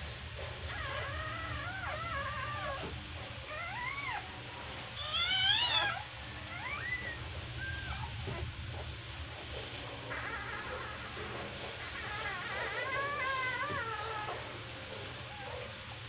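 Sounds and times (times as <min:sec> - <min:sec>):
puppies crying: 0:00.6 - 0:08.9, 0:10.0 - 0:15.7.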